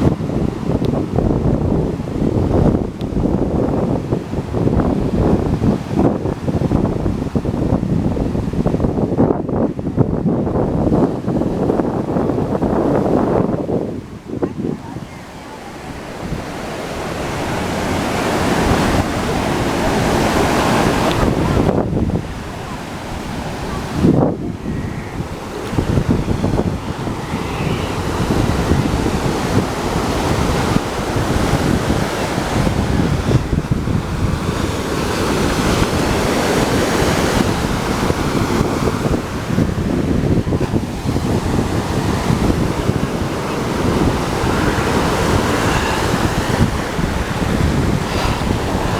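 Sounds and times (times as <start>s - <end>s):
ocean surf washing in: 0.0s - 48.9s
wind buffeting microphone: 0.0s - 48.9s.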